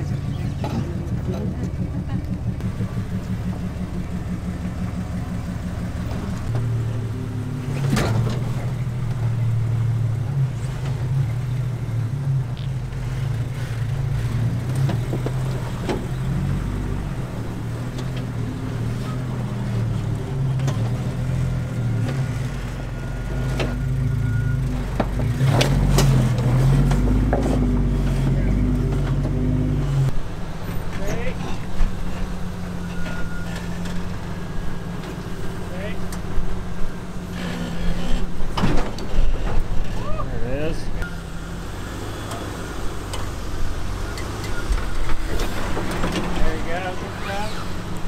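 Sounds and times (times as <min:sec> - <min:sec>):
engine running at crawling pace: 0:00.0 - 0:48.0.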